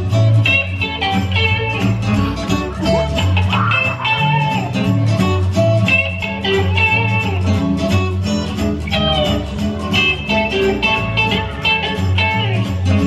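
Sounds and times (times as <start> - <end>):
bouncing bass line: 0.0 - 13.0
plucked acoustic guitar: 0.0 - 13.0.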